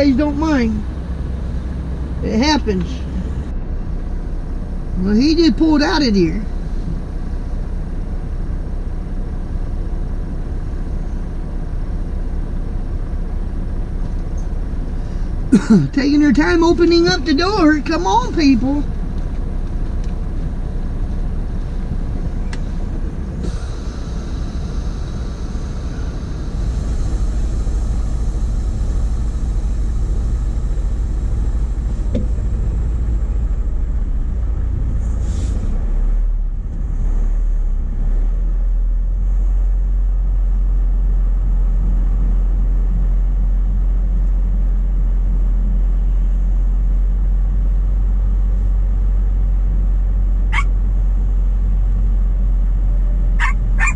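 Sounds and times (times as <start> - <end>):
diesel truck engine rumbling: 0.0 - 53.9.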